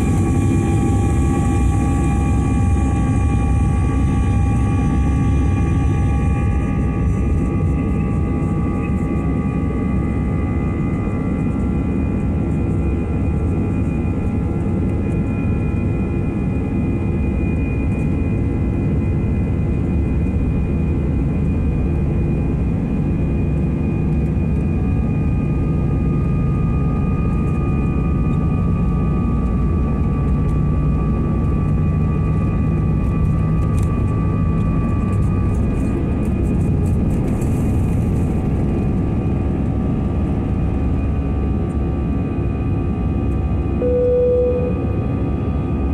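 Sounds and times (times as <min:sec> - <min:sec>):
jet engines roaring in cabin: 0:00.0 - 0:45.9.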